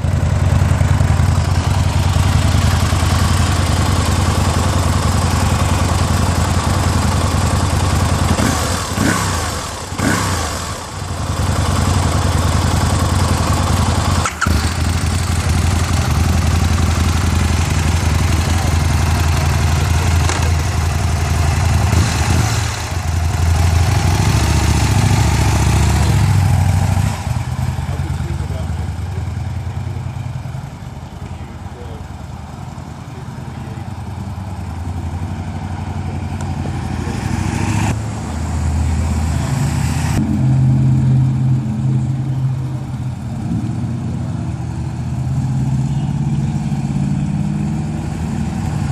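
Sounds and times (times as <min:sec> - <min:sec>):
motorcycle engine running: 0:00.0 - 0:37.9, 0:40.2 - 0:48.9.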